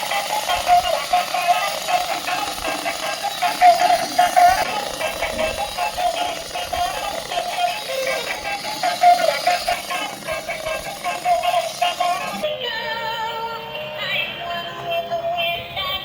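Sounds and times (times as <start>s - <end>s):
synthetic vocal melody: 0.0s - 16.0s.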